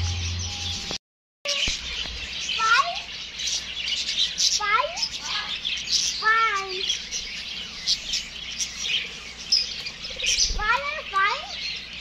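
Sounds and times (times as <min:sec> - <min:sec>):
small birds chirping chorus: 0:00.0 - 0:12.0.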